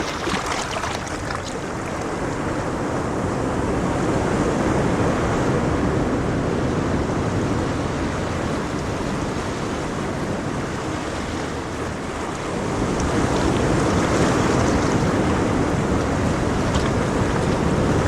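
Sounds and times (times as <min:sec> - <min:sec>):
ocean waves washing on shore: 0:00.0 - 0:18.0.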